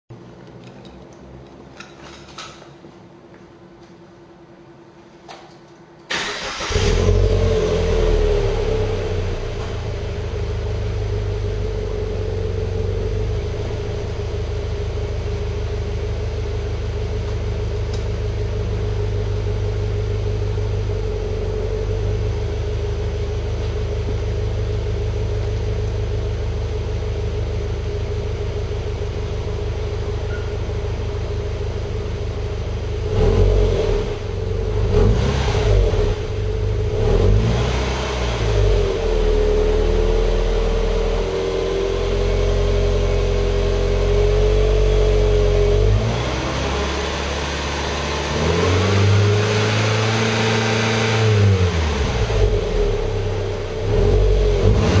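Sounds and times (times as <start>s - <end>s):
car engine starting and idling: 5.4s - 55.0s
car engine revving: 6.1s - 55.0s.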